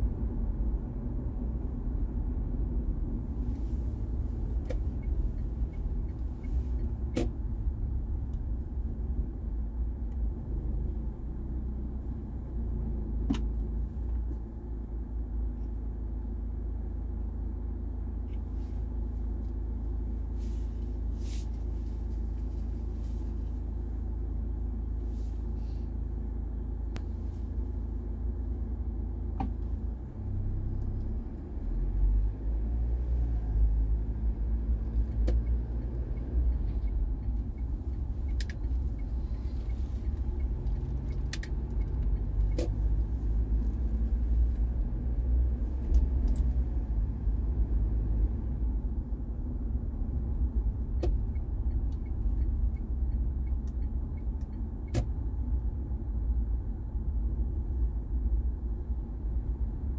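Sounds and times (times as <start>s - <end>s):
car tyres and engine rumbling: 0.0s - 59.9s.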